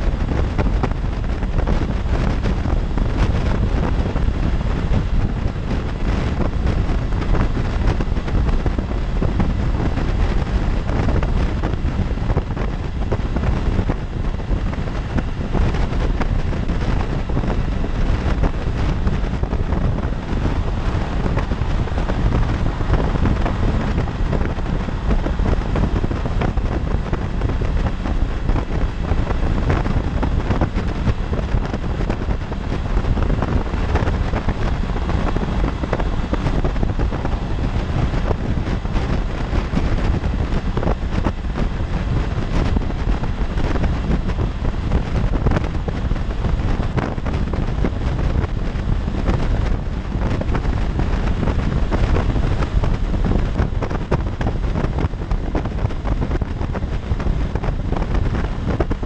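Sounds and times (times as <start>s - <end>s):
motorcycle engine: 0.0s - 57.4s
road noise: 0.0s - 59.0s
wind buffeting microphone: 0.0s - 59.0s.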